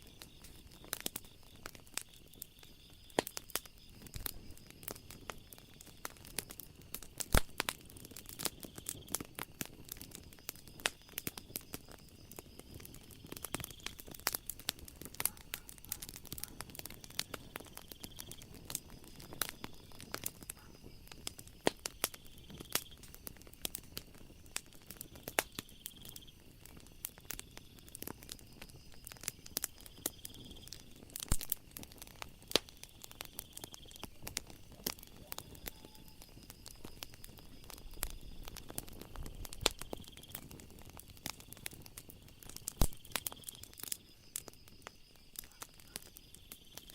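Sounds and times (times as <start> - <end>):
night insects trilling: 0.0 - 46.9
wood fire crackling and popping: 0.0 - 46.9.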